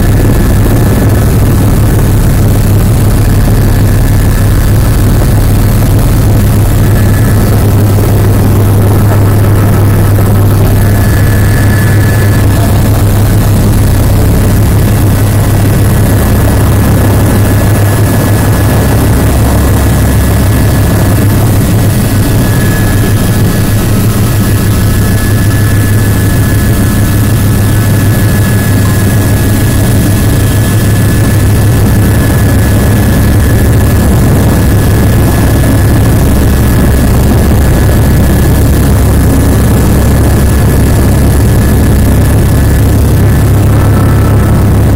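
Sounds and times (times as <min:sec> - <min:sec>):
helicopter rotor beat: 0:00.0 - 0:44.9
turbine whine: 0:00.0 - 0:44.9.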